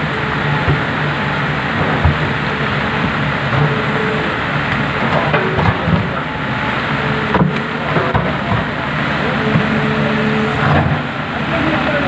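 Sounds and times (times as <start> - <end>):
excavator diesel engine running: 0.0 - 12.0
rain hiss: 0.0 - 12.0.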